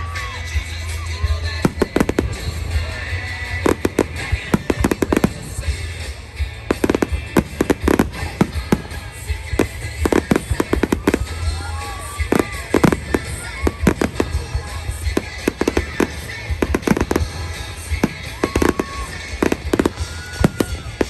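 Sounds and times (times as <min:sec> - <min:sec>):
fireworks crackling and popping: 0:00.2 - 0:21.0.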